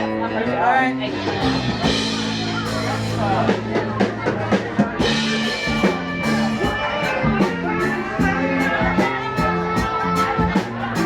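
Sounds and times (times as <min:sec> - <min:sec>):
music with steady drum beat: 0:01.0 - 0:11.0
stepping bass line: 0:01.2 - 0:11.0.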